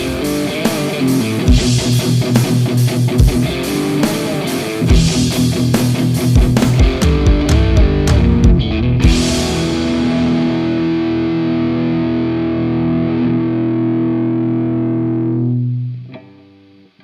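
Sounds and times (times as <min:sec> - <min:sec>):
distorted electric guitar chord: 0:00.0 - 0:16.8.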